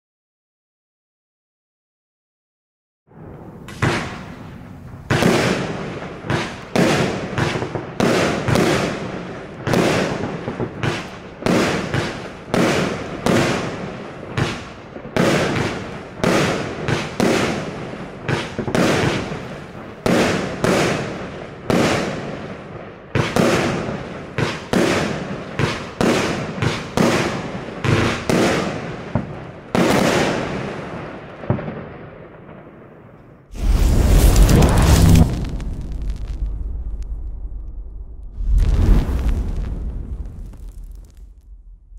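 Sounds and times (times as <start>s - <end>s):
fireworks bangs: 3.1s - 32.7s, 33.4s - 41.9s.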